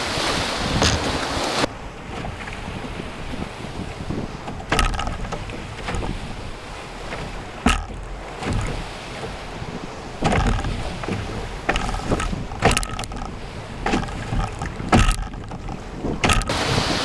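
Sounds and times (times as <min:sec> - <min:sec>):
steady rush of water: 0:00.0 - 0:17.0
water slapping against canoe hull: 0:00.0 - 0:17.0.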